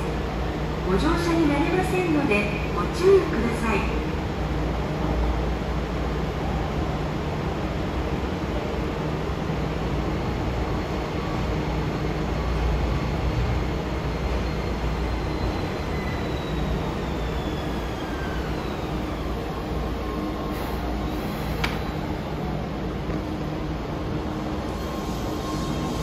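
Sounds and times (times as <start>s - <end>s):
subway train rumble: 0.0s - 26.0s.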